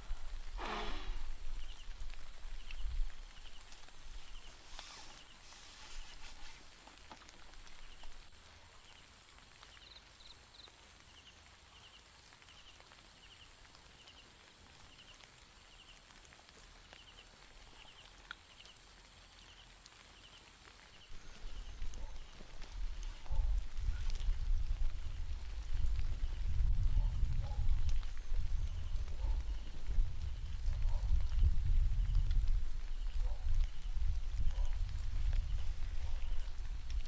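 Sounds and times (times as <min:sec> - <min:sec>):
quiet outdoor background noise: 0:00.0 - 0:37.0.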